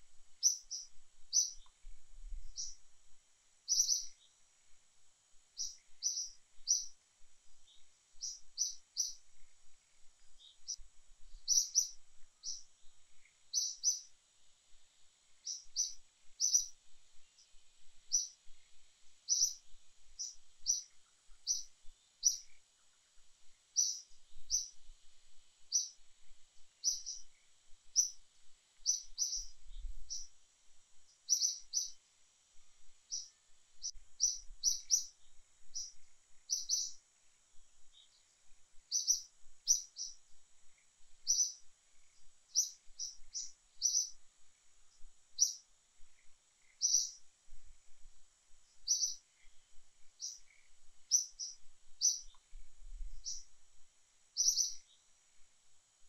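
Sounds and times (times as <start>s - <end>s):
small bird chirping: 0.0s - 4.8s, 5.4s - 53.6s, 54.2s - 55.4s
faint high hum: 0.0s - 56.0s.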